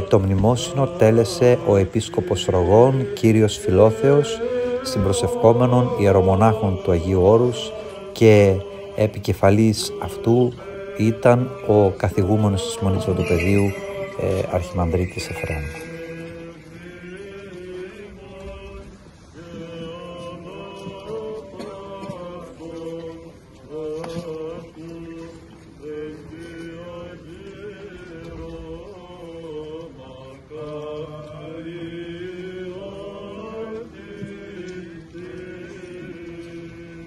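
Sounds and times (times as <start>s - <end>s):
low held vocal drone: 0.0s - 37.0s
male voices chanting: 0.0s - 37.0s.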